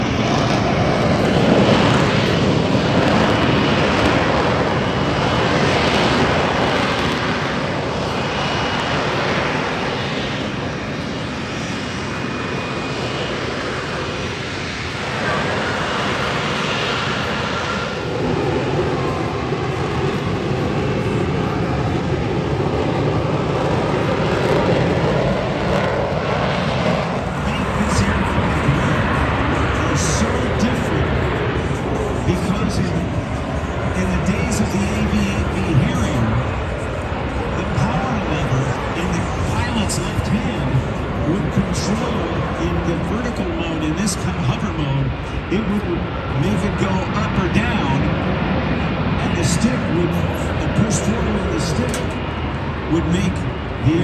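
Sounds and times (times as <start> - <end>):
jet engine roar: 0.0 - 54.0.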